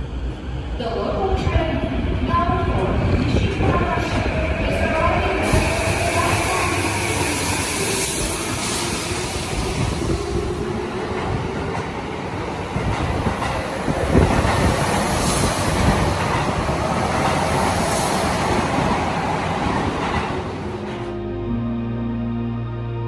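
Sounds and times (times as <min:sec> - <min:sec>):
electric train rumbling: 0:00.0 - 0:23.0.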